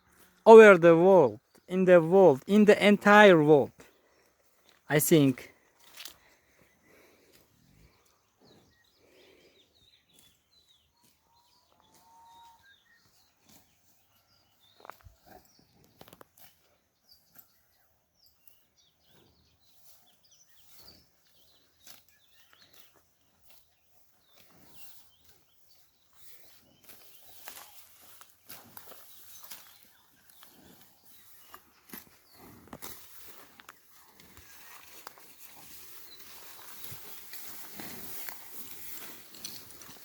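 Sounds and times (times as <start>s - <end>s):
small birds chirping: 2.4s - 40.0s.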